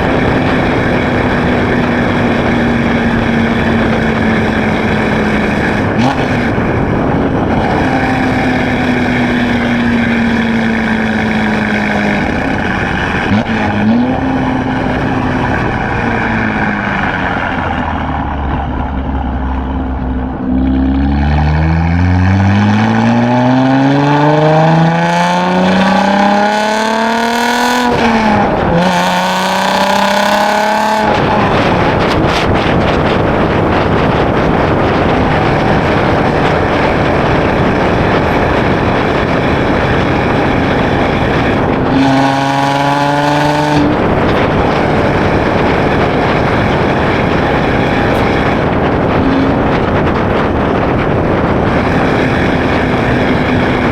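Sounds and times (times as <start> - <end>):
car engine exhaust: 0.0 - 53.9
road and wind noise: 0.0 - 53.9.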